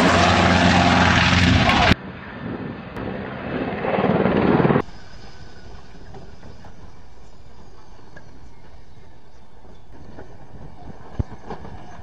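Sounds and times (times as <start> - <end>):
helicopter rotor and engine: 0.0 - 11.9.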